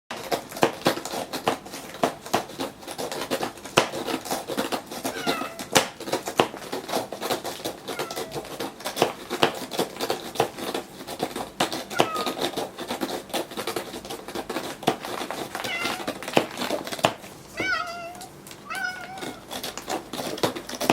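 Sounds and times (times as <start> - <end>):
cat clawing scratching board: 0.1 - 20.9.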